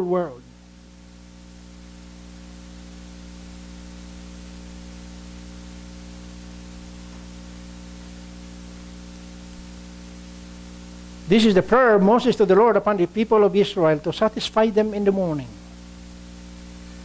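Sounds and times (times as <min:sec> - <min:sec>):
mains hum: 0:00.0 - 0:17.0
sound system hiss: 0:00.0 - 0:17.0.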